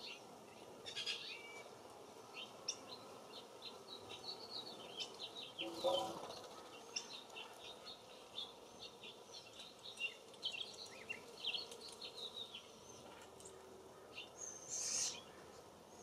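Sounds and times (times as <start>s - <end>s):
bees buzzing: 0.0s - 16.0s
songbirds chirping: 0.0s - 16.0s.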